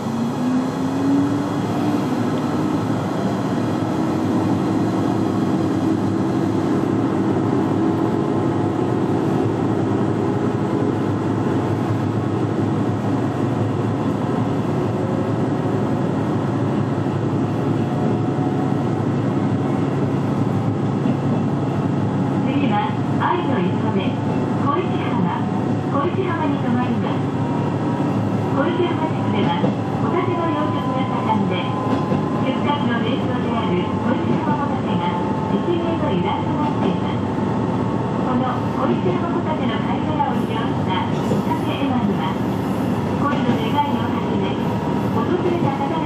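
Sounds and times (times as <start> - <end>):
railcar engine: 0.0 - 46.0
wheels rumbling on rails: 0.0 - 46.0.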